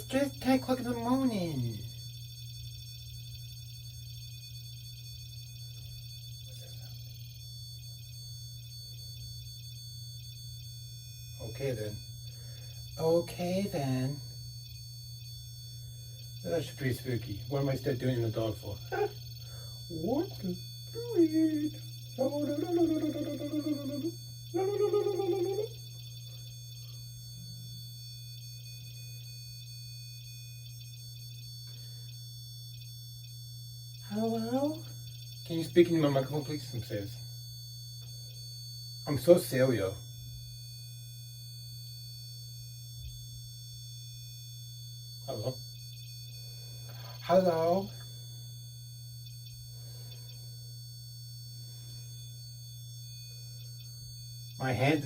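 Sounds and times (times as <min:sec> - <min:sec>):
faint high-pitched whining tones: 0:00.0 - 0:55.0
low electrical hum: 0:00.0 - 0:55.0.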